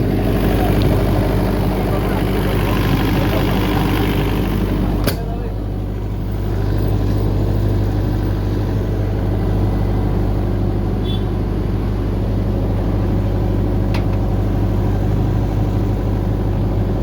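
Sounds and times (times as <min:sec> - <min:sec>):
diesel generator running: 0:00.0 - 0:17.0.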